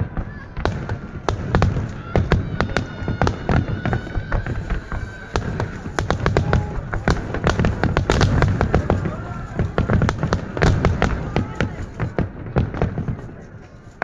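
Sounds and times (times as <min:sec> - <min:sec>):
fireworks bursting and cracking: 0:00.0 - 0:14.0.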